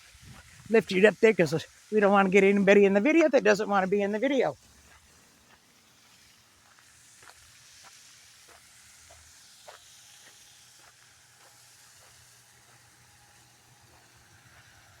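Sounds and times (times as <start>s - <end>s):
faint steady hiss: 0.0s - 15.0s
quiet footsteps walking: 2.0s - 14.8s.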